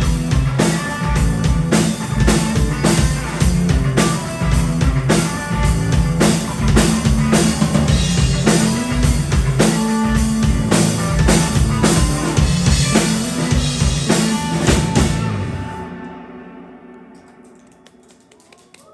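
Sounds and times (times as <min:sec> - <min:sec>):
steady bass line: 0:00.0 - 0:16.0.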